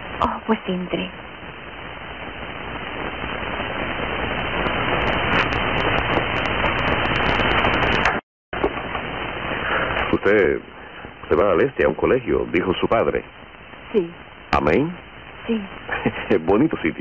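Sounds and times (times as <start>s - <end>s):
crackles: 0.0s - 17.0s
soundtrack hiss and static: 0.0s - 17.0s.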